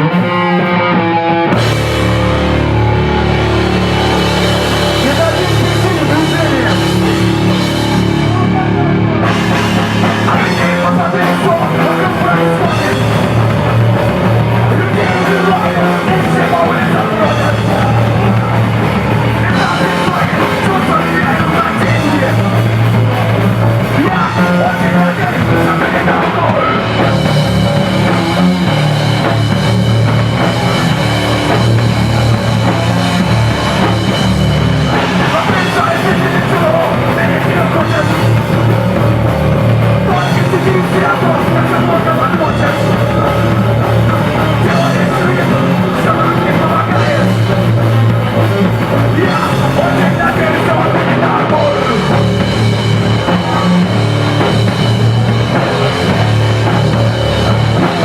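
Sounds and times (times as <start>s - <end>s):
loud live rock band: 0.0s - 58.0s.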